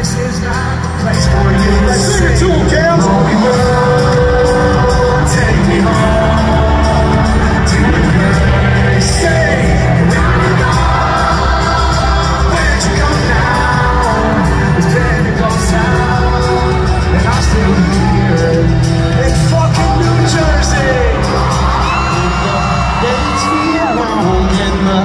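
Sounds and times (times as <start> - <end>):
heavy bass: 0.0 - 25.0
live rock band: 0.0 - 25.0
man singing: 0.0 - 25.0.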